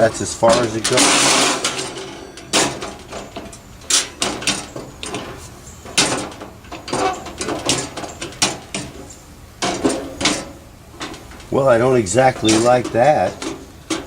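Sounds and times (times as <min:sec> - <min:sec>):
metal clacks and knocks: 0:00.0 - 0:14.0.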